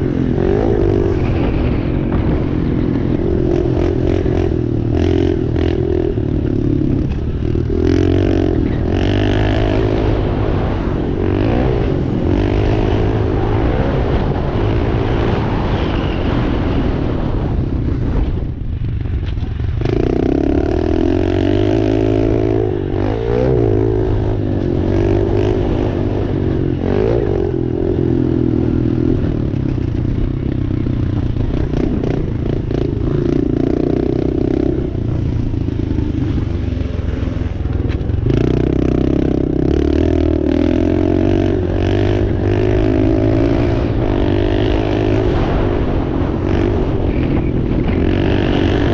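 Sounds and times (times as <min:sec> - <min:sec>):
dirt bike engine revving: 0:00.0 - 0:17.4, 0:19.7 - 0:48.9.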